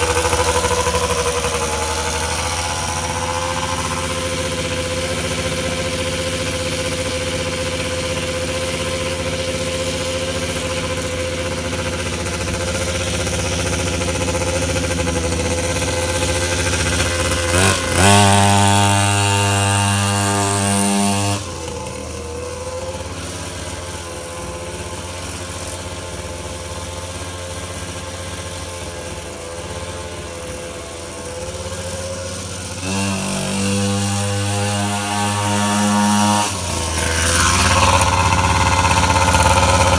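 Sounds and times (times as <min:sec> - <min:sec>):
dirt bike engine idling and revving: 0:00.0 - 0:39.9.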